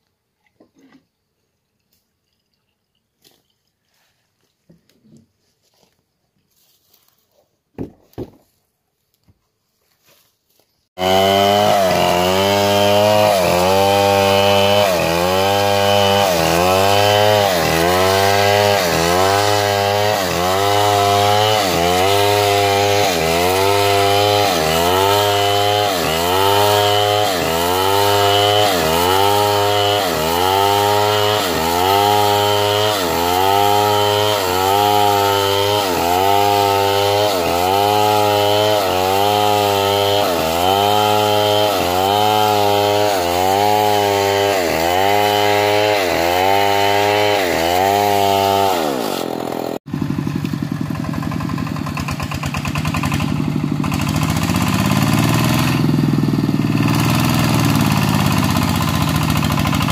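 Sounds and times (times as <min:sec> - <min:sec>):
chainsaw cutting a log: 0:11.0 - 0:59.9.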